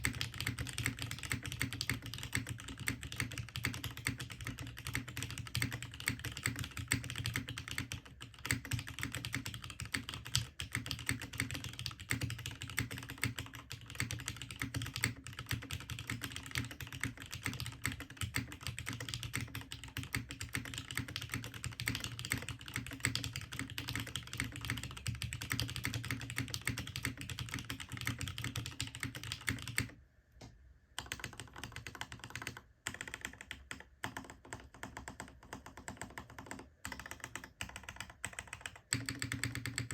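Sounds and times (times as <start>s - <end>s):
mechanical keyboard typing: 0.0s - 29.9s, 31.0s - 39.9s.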